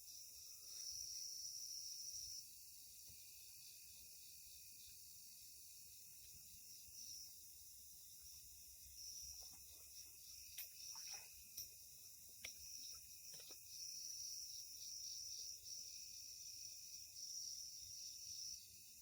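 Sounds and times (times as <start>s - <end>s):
night insects chorus: 0.0s - 19.0s.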